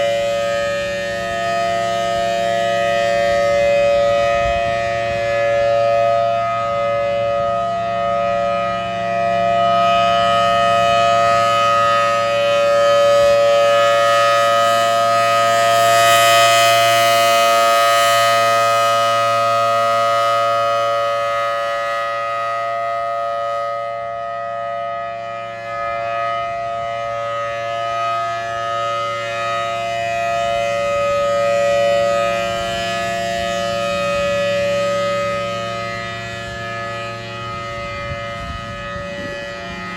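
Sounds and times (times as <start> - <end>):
civil defense siren: 0.0 - 39.9.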